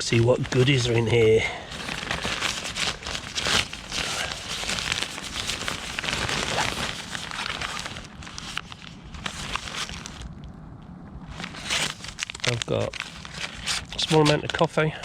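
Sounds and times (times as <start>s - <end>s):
bag rustling and crinkling: 0.0s - 10.4s, 11.3s - 15.0s.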